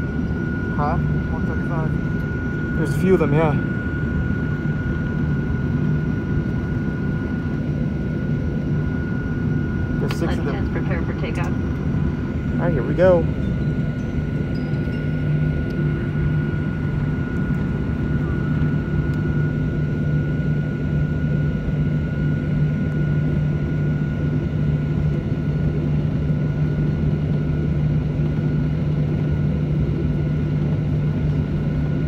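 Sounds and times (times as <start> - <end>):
high engine whine: 0.0 - 32.0
jet engines droning: 0.0 - 32.0.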